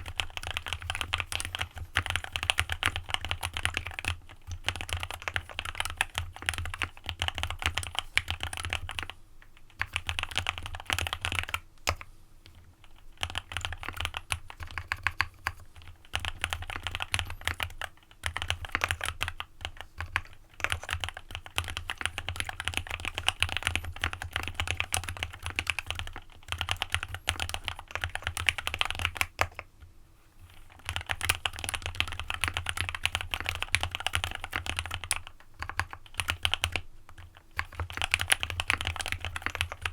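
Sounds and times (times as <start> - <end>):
typing on mechanical keyboard: 0.0 - 29.7, 30.7 - 39.9.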